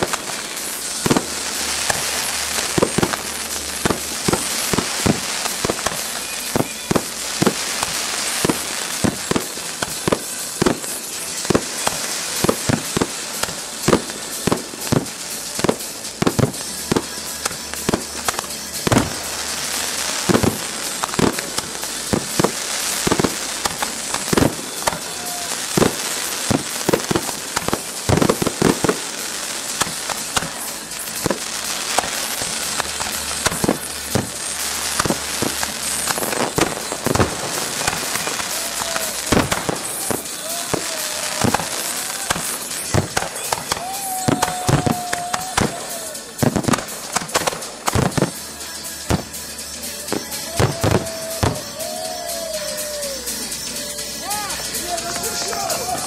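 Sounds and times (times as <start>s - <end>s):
firework bangs: 0.0s - 56.0s
hissing crackle of rockets: 0.0s - 56.0s.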